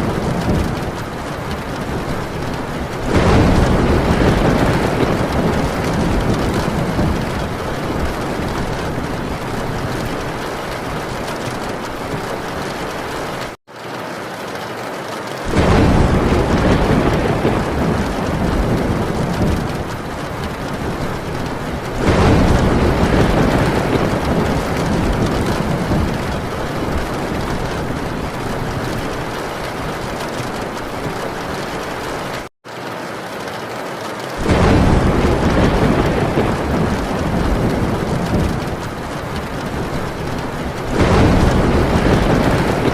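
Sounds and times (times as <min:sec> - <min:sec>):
thunder rumbling: 0:00.0 - 0:13.6, 0:15.5 - 0:32.5, 0:34.4 - 0:42.9
heavy rain on a tin roof: 0:00.0 - 0:42.9.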